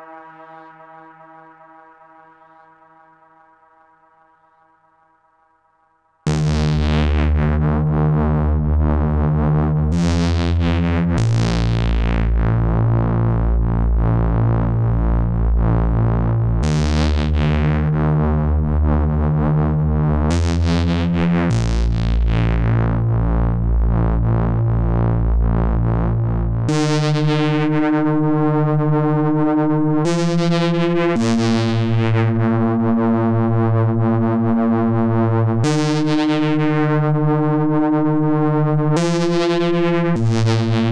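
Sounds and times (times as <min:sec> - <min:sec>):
synthesizer low held notes: 0:00.0 - 0:05.4, 0:06.3 - 0:40.9.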